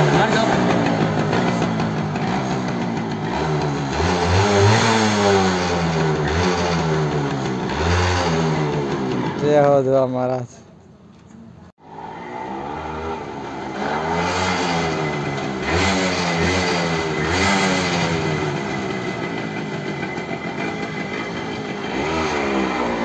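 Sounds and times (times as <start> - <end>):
motorcycle engine revving: 0.0 - 9.8, 11.8 - 23.0.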